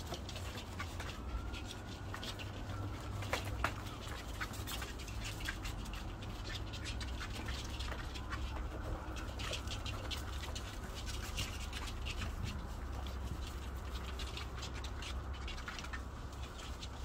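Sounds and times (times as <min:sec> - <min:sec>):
claws and toys clicking on floor: 0:00.0 - 0:17.0
puppy noises: 0:00.0 - 0:17.0.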